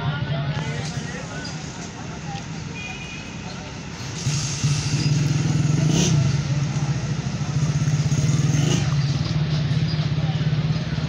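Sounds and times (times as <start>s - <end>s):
vehicle engine puttering: 0.5s - 11.0s.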